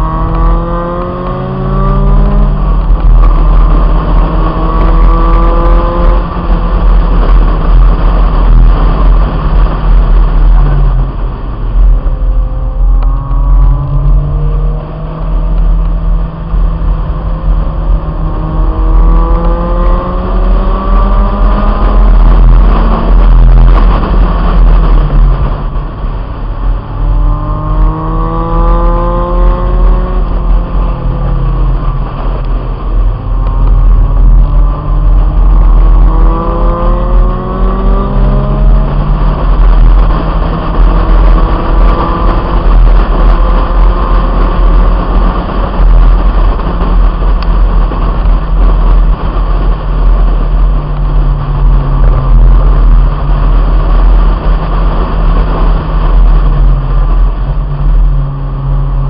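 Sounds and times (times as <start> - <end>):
car engine accelerating: 0.0 - 59.0
low wind rumble: 0.0 - 59.0.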